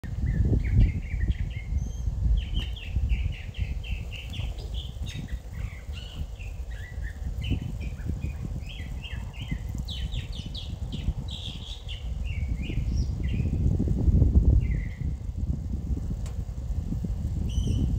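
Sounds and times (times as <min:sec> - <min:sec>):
low outdoor rumble: 0:00.0 - 0:17.9
small birds chirping: 0:00.0 - 0:17.9.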